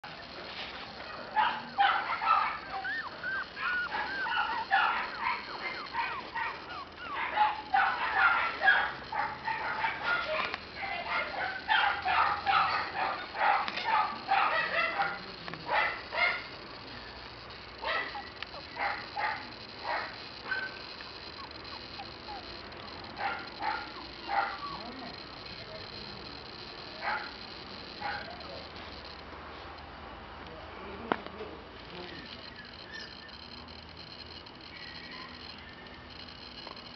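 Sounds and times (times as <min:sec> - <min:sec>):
puppies yipping and whining: 0:00.1 - 0:26.1, 0:32.0 - 0:36.9.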